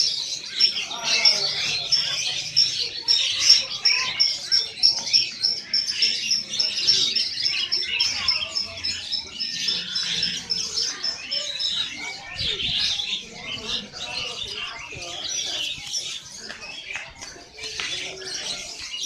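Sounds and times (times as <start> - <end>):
songbirds chirping and singing: 0.0 - 19.0.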